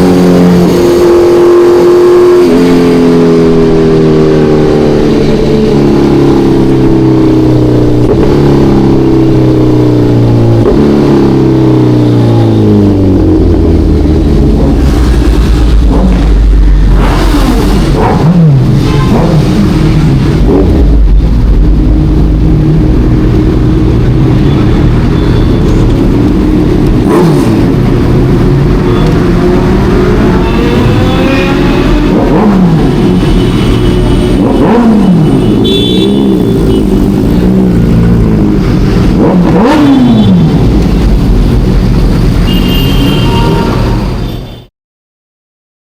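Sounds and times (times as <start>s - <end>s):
motorcycle engine accelerating: 0.0s - 42.6s.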